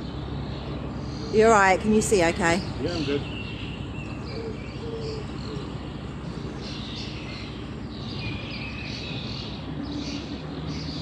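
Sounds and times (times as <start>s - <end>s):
birds chirping and singing: 0.0s - 11.0s
diesel engine running: 0.0s - 11.0s.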